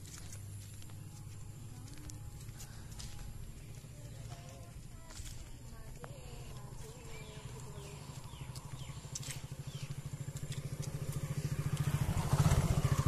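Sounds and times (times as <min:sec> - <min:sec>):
motorcycle engine approaching: 0:00.0 - 0:13.0.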